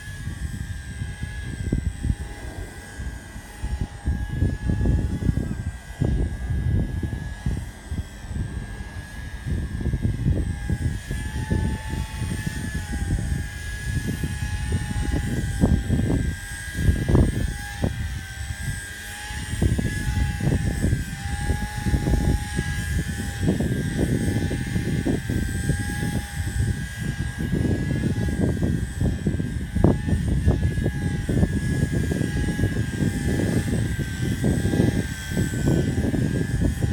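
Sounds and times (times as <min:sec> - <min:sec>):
rc helicopter whine: 0:00.0 - 0:36.9
wind buffeting microphone: 0:00.0 - 0:36.9.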